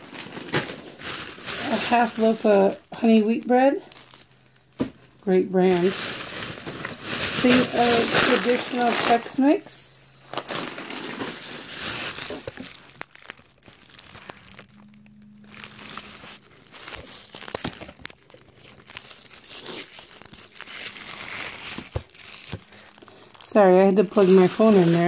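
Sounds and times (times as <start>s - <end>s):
phone handling crinkling: 0.0s - 9.5s, 10.1s - 25.0s.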